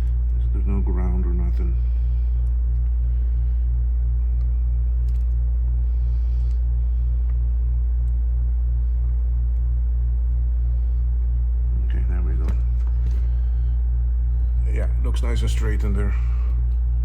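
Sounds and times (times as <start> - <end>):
low throbbing hum: 0.0 - 17.0.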